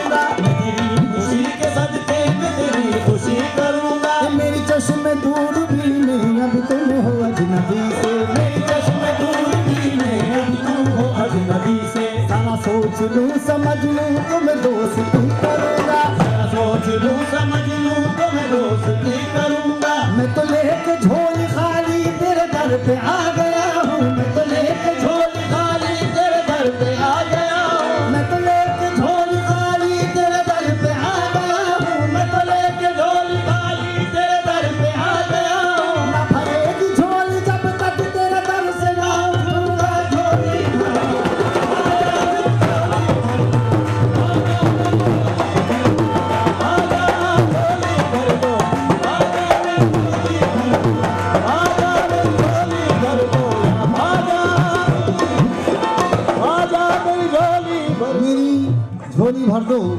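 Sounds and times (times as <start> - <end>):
keyboard and harmonium melody: 0.0 - 59.9
tabla and dholak drumming: 0.0 - 59.9.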